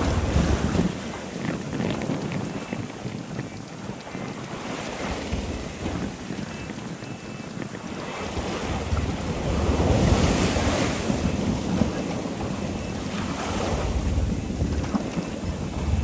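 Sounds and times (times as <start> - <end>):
water rushing past boat: 0.0 - 16.0
wind buffeting microphone: 0.0 - 16.0.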